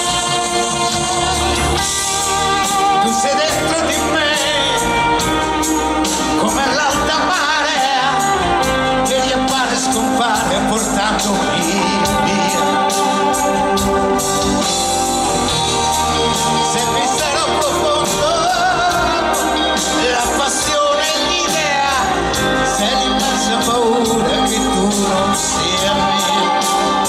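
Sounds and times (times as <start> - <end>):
live band with male vocal: 0.0 - 27.0.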